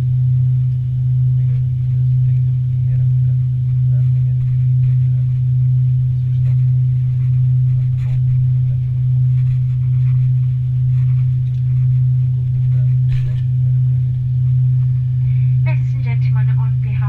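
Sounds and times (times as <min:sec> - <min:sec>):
jet cabin drone: 0:00.0 - 0:17.0.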